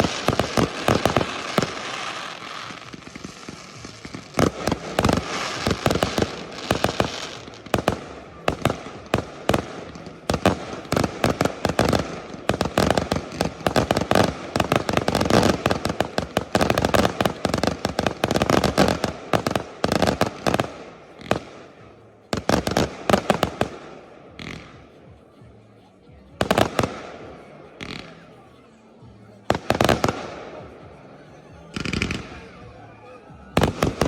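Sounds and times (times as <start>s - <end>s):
fireworks bursts and bangs: 0.0s - 34.0s.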